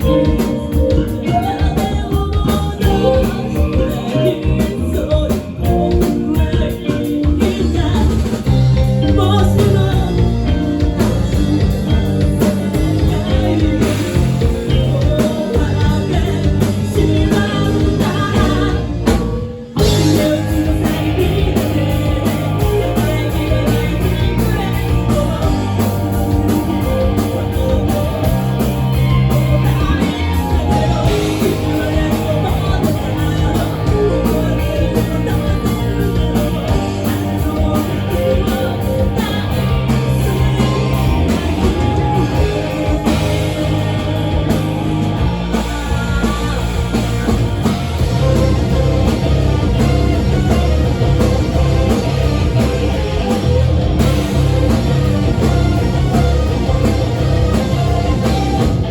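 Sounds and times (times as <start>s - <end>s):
drum kit beat: 0.0s - 58.9s
guitar: 0.0s - 58.9s
person singing: 0.0s - 58.9s
rock band playing live: 0.0s - 58.9s.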